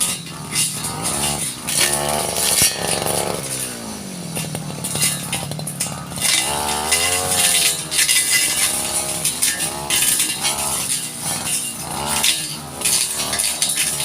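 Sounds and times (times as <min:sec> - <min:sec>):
two-stroke brush cutter revving: 0:00.0 - 0:14.0.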